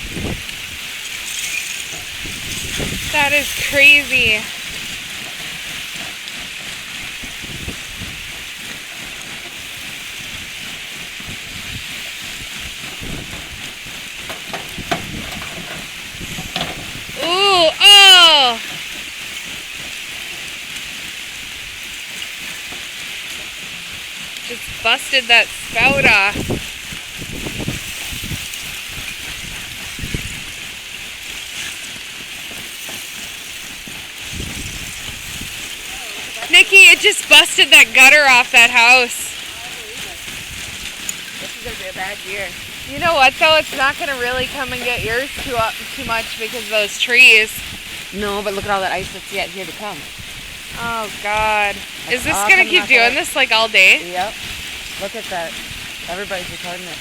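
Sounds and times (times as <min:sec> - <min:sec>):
ice cracking: 0:00.0 - 0:07.8, 0:12.9 - 0:50.1, 0:50.8 - 0:57.0
lake ice grinding and crackling: 0:00.0 - 0:57.0.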